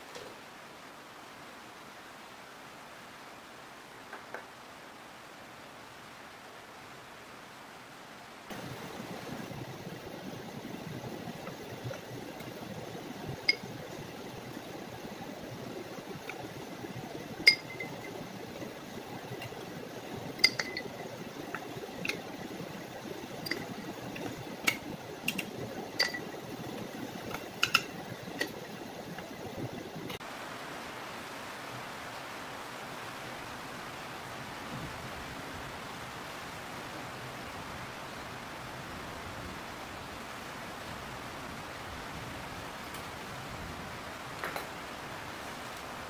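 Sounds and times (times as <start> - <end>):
steady low hiss: 0.0 - 46.0.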